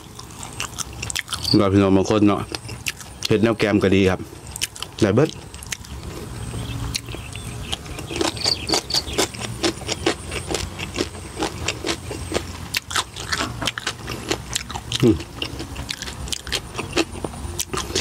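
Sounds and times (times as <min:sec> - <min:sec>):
crisp chewing crunches: 0:00.0 - 0:03.4, 0:04.3 - 0:18.0.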